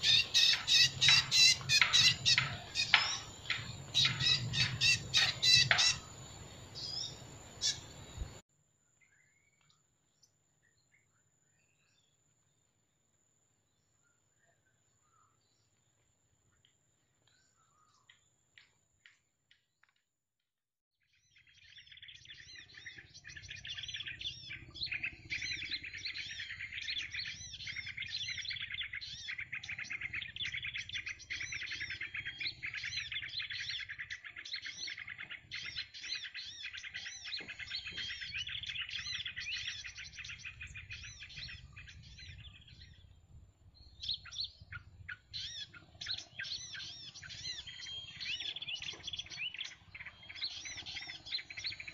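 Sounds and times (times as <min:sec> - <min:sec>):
small birds chirping: 0:00.0 - 0:12.7, 0:21.1 - 0:51.9.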